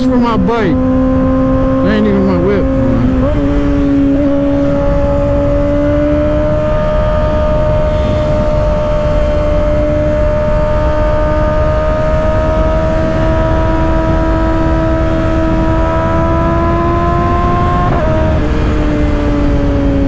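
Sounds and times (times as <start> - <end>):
motorcycle engine accelerating: 0.0 - 20.0
wind rush: 0.0 - 20.0.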